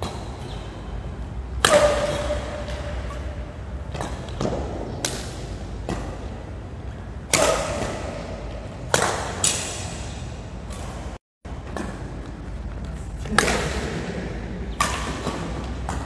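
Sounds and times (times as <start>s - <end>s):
rackets hitting shuttlecock: 0.0s - 12.5s, 13.2s - 16.0s.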